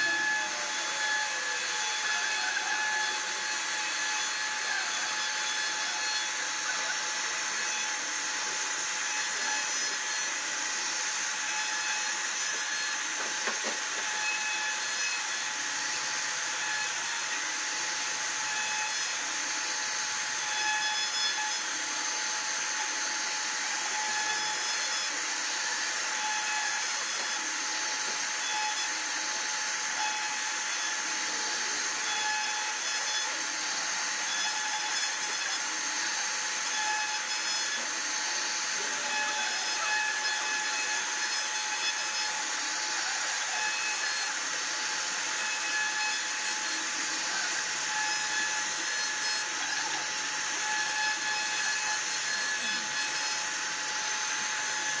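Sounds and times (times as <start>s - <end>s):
hiss of wood cutting: 0.0s - 55.0s
router spindle whine: 0.0s - 55.0s.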